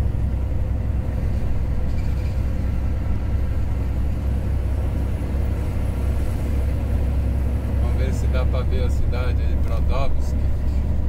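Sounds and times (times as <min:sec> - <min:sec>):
vehicle cabin road rumble: 0:00.0 - 0:11.0.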